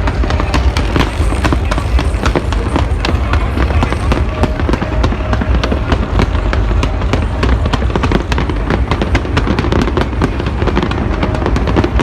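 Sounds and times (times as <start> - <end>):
fireworks crackling and popping: 0.0 - 12.0
low rumble of bursts: 0.0 - 12.0.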